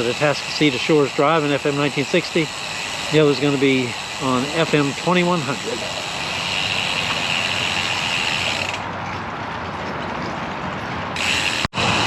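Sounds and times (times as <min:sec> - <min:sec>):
bicycle freewheel ticking: 0:00.0 - 0:08.9, 0:11.2 - 0:12.0
wind: 0:00.0 - 0:12.0.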